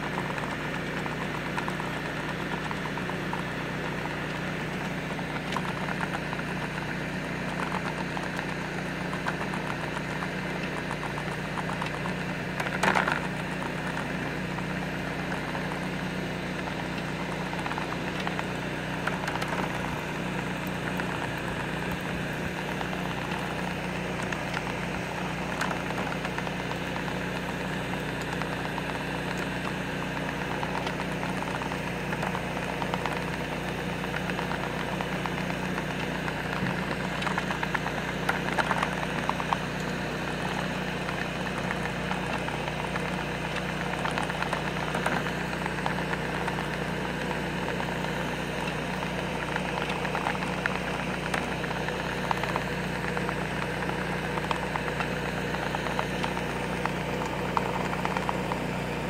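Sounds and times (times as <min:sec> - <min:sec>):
engine idling hum: 0:00.0 - 0:59.0
engine knock: 0:00.0 - 0:59.0.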